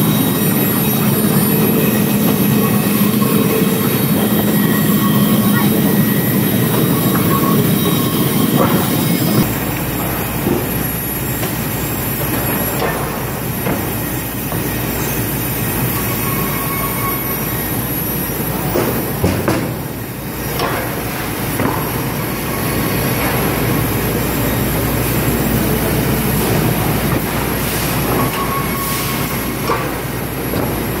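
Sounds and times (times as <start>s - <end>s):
sawmill machinery clattering: 0.0s - 31.0s.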